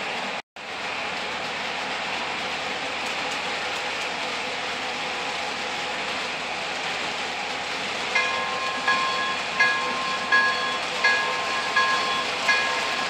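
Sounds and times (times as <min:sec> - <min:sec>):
model trains running on track: 0:00.0 - 0:13.0.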